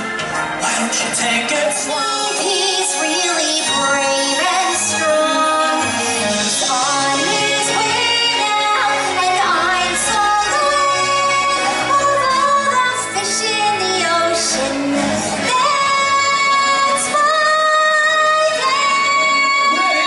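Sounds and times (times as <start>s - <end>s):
backing music: 0.0s - 20.0s
woman singing: 1.6s - 20.0s.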